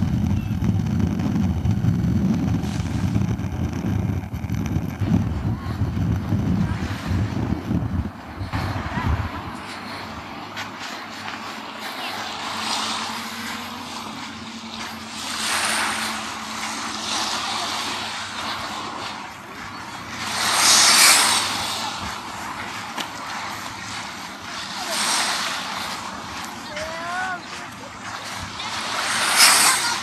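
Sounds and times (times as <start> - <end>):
faint engine hum: 0.0 - 30.0
sea waves washing onto sand: 0.0 - 30.0.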